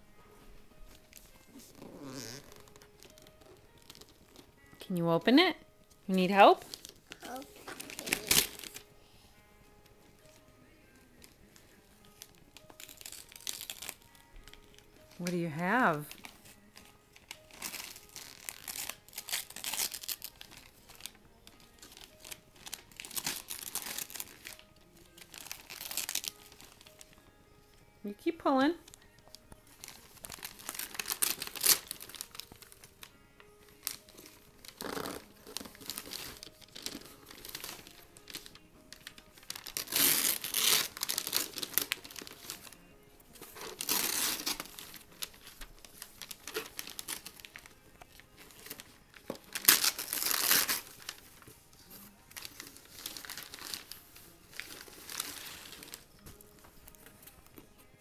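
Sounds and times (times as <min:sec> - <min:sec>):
wrapping paper crinkling and tearing: 0:01.0 - 0:04.5, 0:06.6 - 0:08.8, 0:12.0 - 0:27.2, 0:28.8 - 0:58.0.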